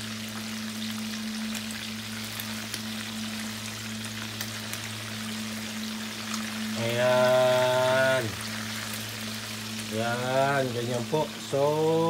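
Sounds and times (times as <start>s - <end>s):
fish sizzling in hot oil: 0.0s - 12.0s
low hum: 0.0s - 12.0s.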